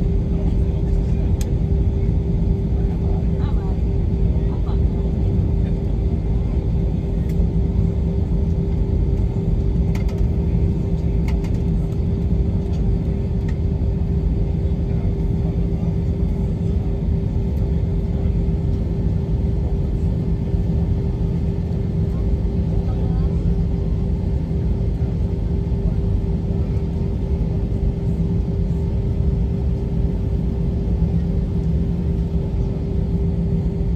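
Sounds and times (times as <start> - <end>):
constant hum: 0.0 - 33.9
jet engine cabin rumble: 0.0 - 33.9.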